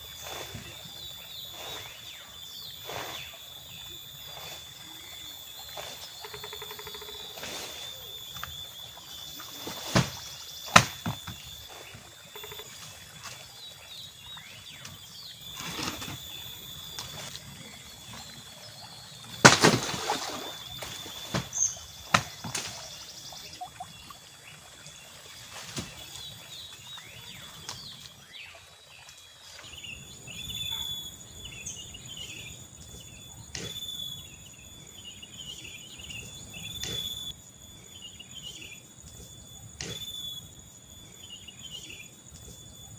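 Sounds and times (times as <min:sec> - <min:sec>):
birds chirping: 0:00.0 - 0:42.9
insects buzzing: 0:00.0 - 0:42.9.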